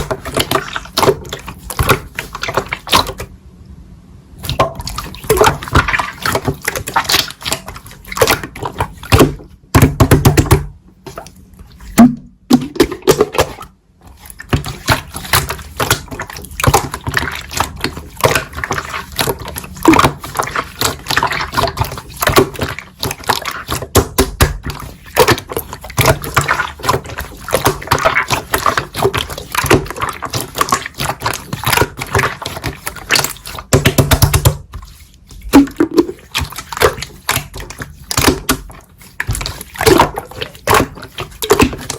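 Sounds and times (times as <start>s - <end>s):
slime squelching: 0.0s - 3.4s, 4.4s - 41.9s.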